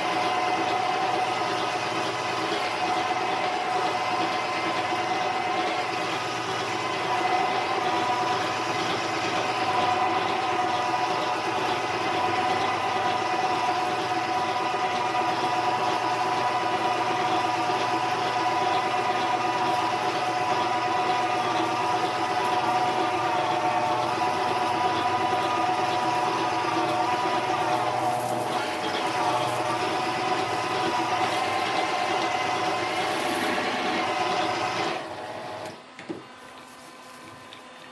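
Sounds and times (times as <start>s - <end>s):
drill cutting through metal: 0.0s - 35.8s
lathe motor whining: 0.0s - 35.8s.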